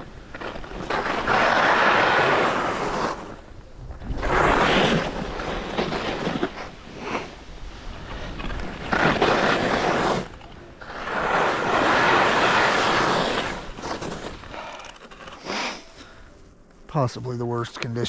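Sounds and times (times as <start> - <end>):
skis scraping across snow: 0.0 - 16.3.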